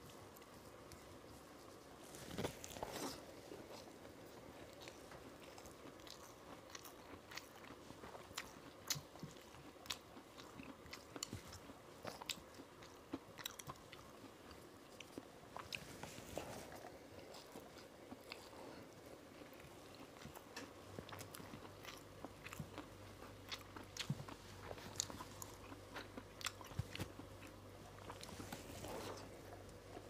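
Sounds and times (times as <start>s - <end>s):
close chewing with crunches: 0.0s - 30.0s.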